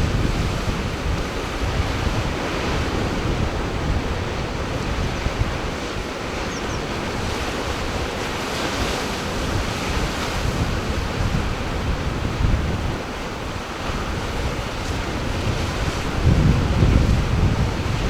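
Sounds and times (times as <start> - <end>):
ocean surf breaking: 0.0 - 18.0
wind rumbling on microphone: 0.0 - 18.0.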